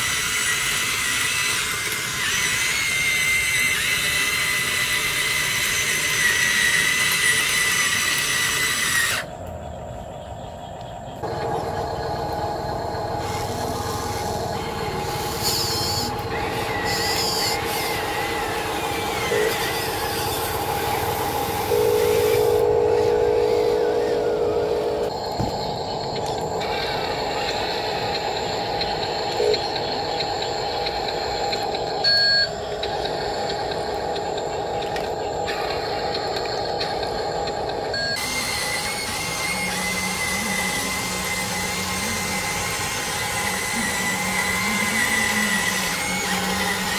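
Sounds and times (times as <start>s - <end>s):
electric motors and hydraulic pump whine: 0.0s - 46.9s.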